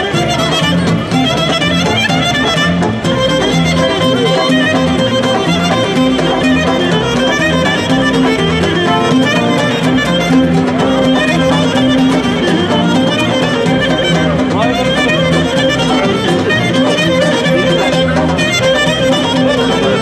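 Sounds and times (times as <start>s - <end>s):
lute accompanying: 0.0s - 20.0s
violin playing folk dance music: 0.0s - 20.0s.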